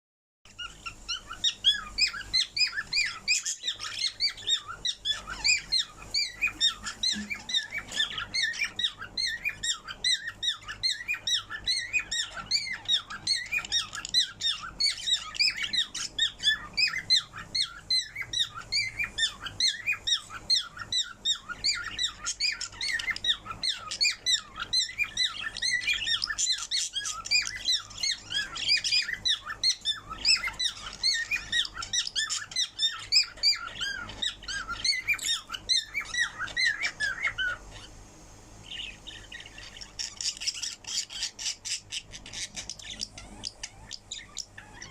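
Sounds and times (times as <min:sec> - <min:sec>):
parrot chirping and chattering: 0:00.5 - 0:44.9.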